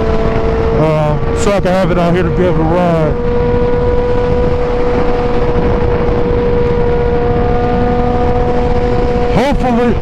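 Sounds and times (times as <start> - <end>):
motorcycle engine at steady revs: 0.0 - 10.0
wind rushing over microphone: 0.0 - 10.0.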